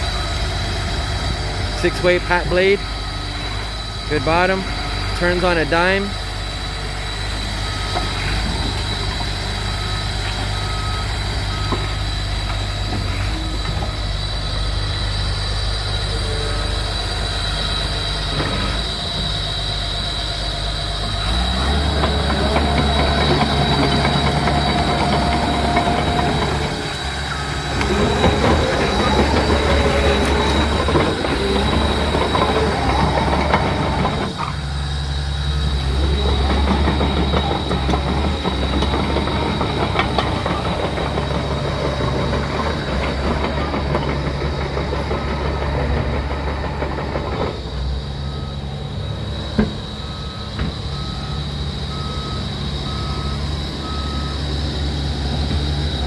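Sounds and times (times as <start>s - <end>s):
bulldozer diesel engine running: 0.0s - 56.0s
steel tracks clanking and squealing: 0.0s - 56.0s.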